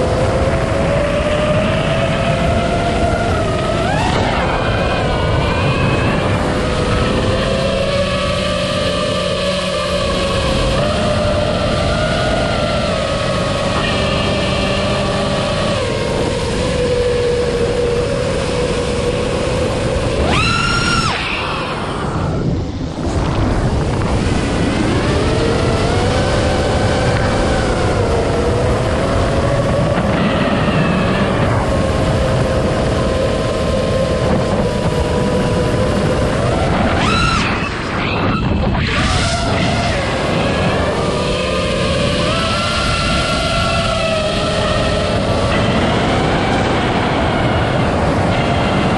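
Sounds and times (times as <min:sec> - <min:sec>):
drone motors whining: 0:00.0 - 0:48.9
rush of wind and propeller wash: 0:00.0 - 0:48.9.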